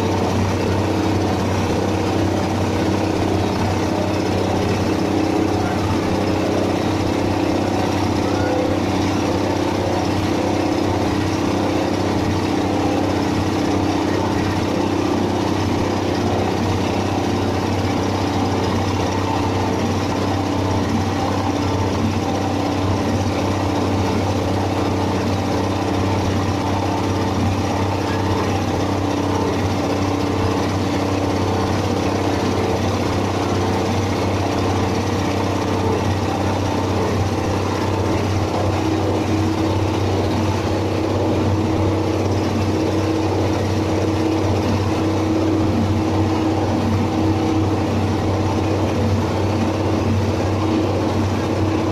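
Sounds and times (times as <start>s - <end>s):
small engine running: 0.0s - 51.9s.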